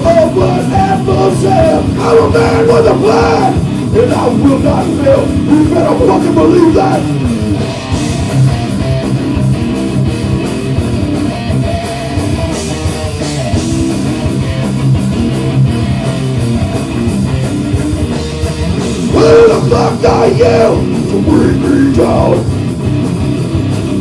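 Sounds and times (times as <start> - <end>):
electric guitars: 0.0 - 24.0
steady drum beat: 0.0 - 24.0.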